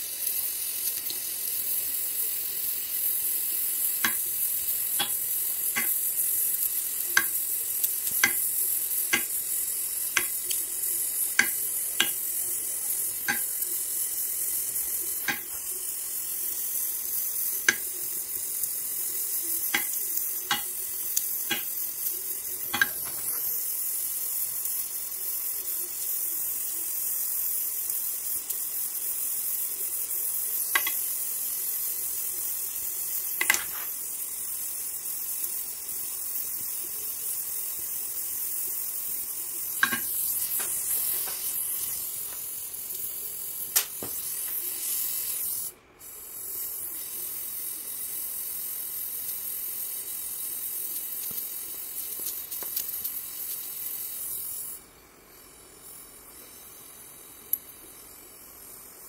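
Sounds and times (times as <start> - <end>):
welding torch flame hissing: 0.0 - 59.0.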